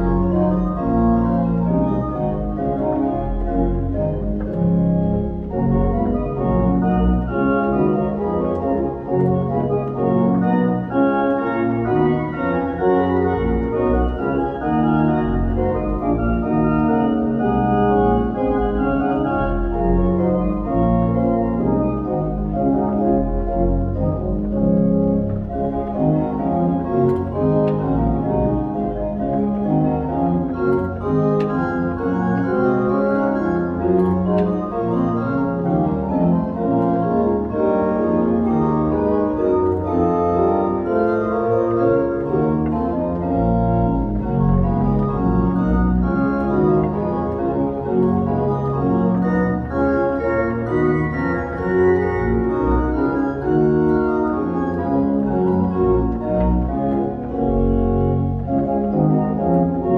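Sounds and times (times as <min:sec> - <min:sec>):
church organ playing fast piece: 0:00.0 - 0:59.9.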